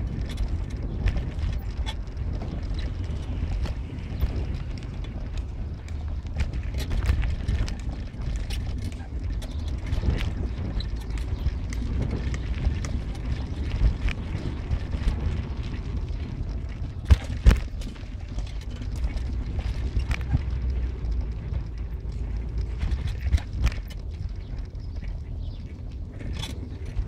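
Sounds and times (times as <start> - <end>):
car road rumble: 0.0 - 27.0
knocks and rattles: 0.0 - 27.0.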